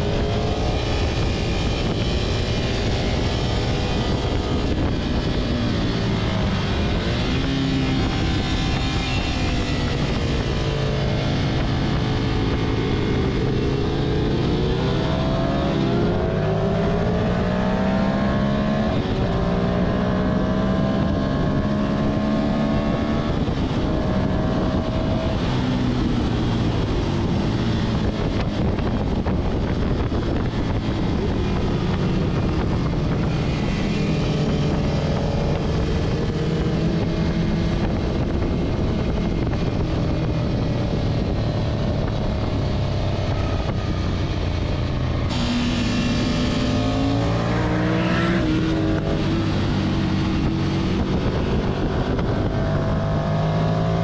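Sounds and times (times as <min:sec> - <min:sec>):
motorcycle engine revving: 0:00.0 - 0:54.0
wind rush over microphone: 0:00.0 - 0:54.0.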